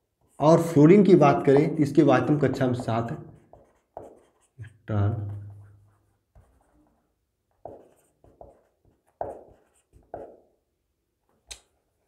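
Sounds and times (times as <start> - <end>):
marker pen writing on whiteboard: 0.0 - 10.7.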